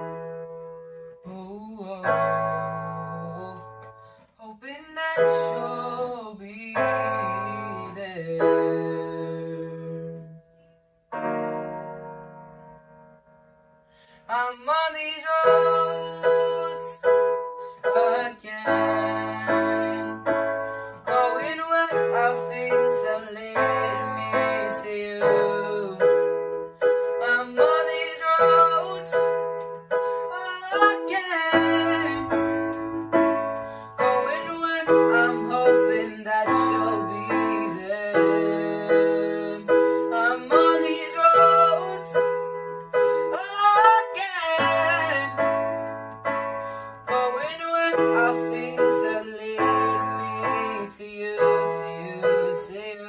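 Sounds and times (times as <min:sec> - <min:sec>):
electronic keyboard piano chords: 0:00.0 - 0:53.0.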